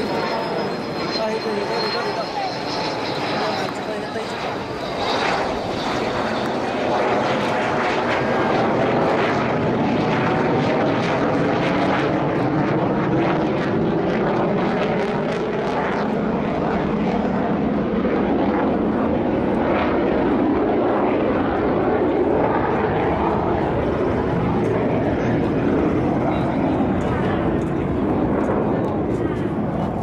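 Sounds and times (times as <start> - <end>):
jet engine roaring: 0.0 - 30.0.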